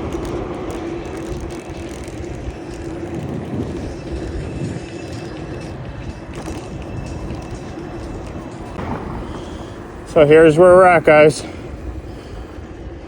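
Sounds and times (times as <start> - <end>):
low hum: 0.0 - 13.0
wind and road noise: 0.0 - 13.0.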